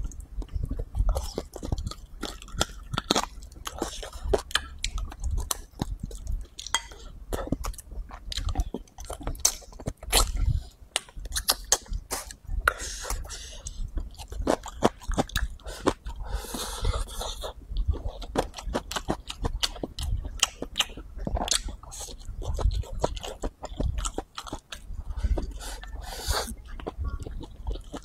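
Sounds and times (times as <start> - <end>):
man chewing food: 0.0 - 28.0.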